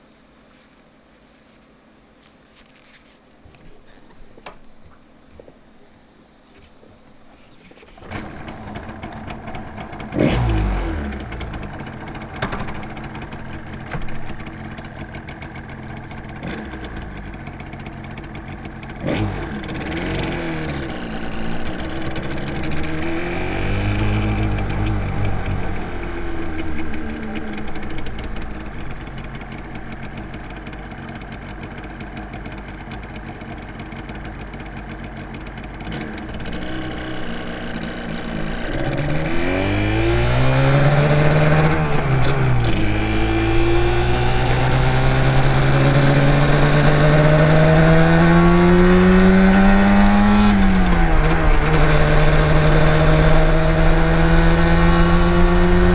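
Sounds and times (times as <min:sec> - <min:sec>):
two-stroke motorcycle engine revving: 0:08.0 - 0:55.9.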